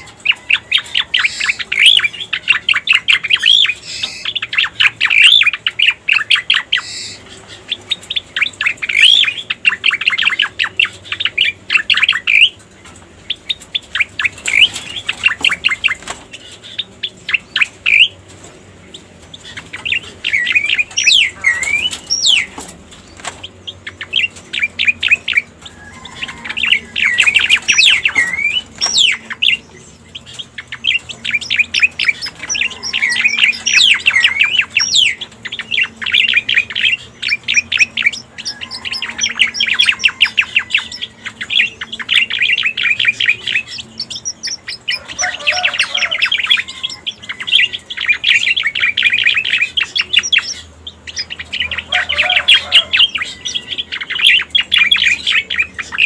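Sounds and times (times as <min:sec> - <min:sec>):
recorded birdsong chattering chirps: 0:00.0 - 0:56.0.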